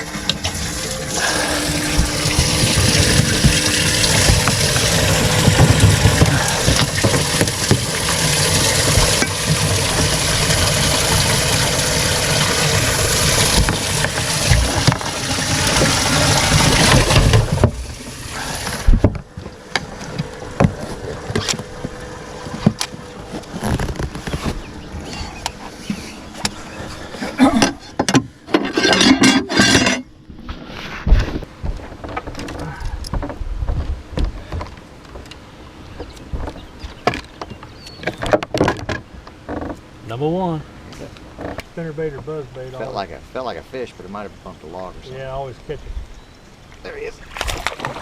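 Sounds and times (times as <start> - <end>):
outboard motor running: 0.0 - 44.2
rushing wind and water: 0.0 - 48.0.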